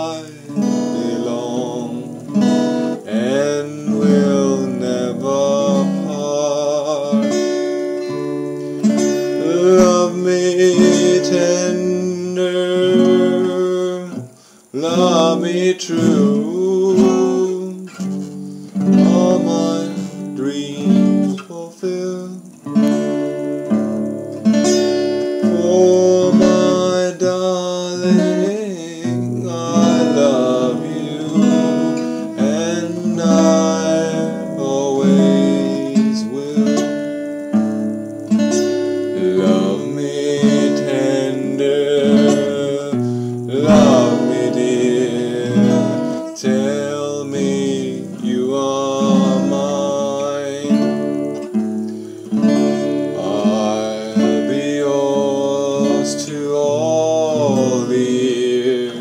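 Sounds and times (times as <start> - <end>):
man singing: 0.0 - 23.0, 25.4 - 37.4, 38.4 - 51.6, 52.3 - 59.0
acoustic guitar strumming: 0.0 - 59.0.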